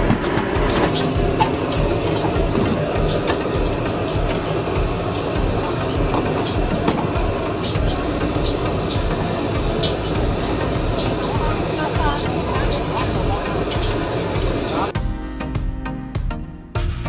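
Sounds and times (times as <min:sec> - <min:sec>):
metal and crockery clinking: 0:00.1 - 0:14.2.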